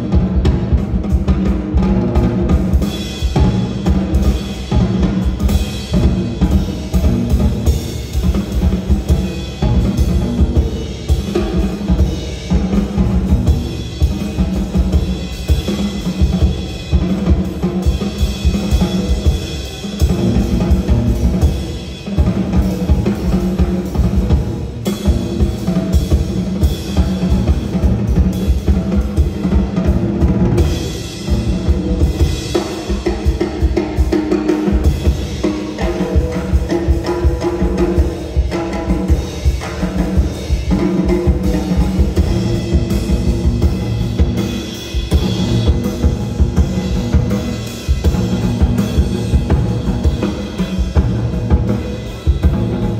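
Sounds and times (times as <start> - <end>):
drum kit playing: 0.0 - 52.9.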